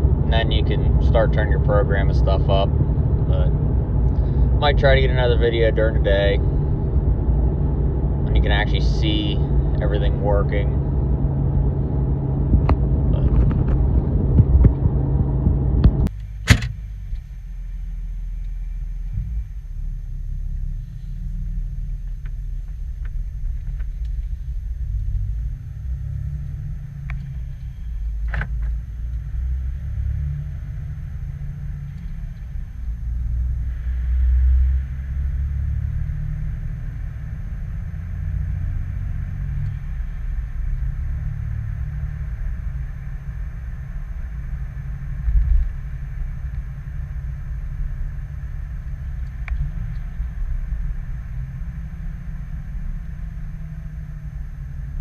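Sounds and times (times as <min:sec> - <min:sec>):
pickup truck engine rumble: 0:00.0 - 0:55.0.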